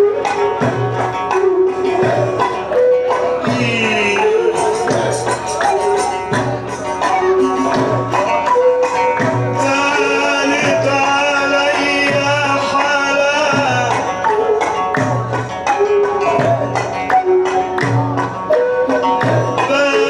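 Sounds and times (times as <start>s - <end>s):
hand drums beating: 0.0s - 20.0s.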